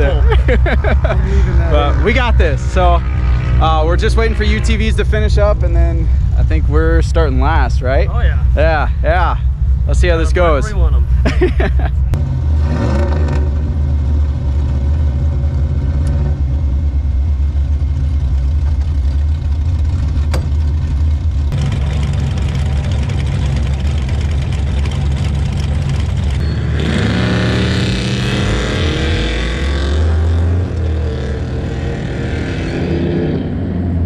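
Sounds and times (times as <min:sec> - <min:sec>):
vehicle engine rumbling: 0:00.0 - 0:34.0.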